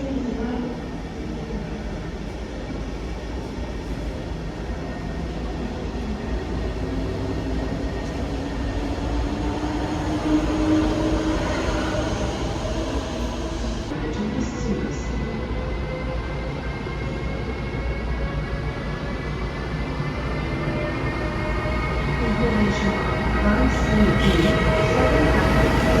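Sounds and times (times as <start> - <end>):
train rumbling with humming whine: 0.0 - 26.0.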